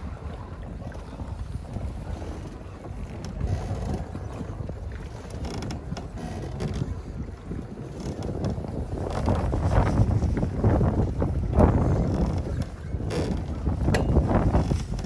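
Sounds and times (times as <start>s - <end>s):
floating raft creaking: 0.0s - 15.0s
wind rumbling on microphone: 0.0s - 15.0s.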